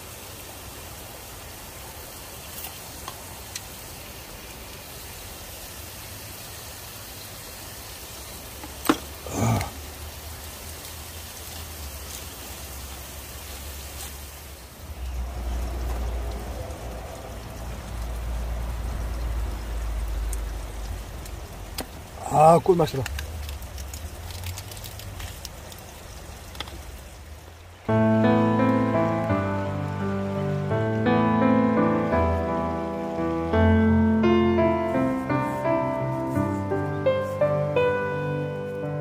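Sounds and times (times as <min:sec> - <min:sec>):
stream running over rocks: 0:00.0 - 0:39.0.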